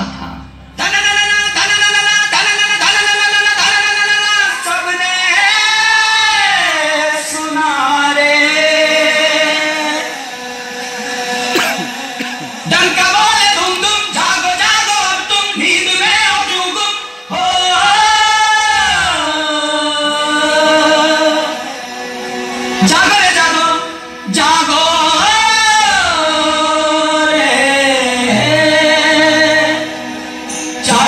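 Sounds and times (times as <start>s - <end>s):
backing music over loudspeakers: 0.0s - 31.0s
singer with long wavering notes: 0.7s - 31.0s.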